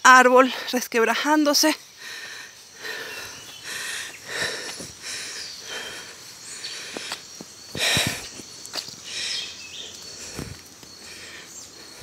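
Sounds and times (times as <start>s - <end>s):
crickets chirping: 0.0s - 12.0s
footsteps rustling on forest trail: 0.0s - 12.0s
faint bird chirps: 1.7s - 12.0s.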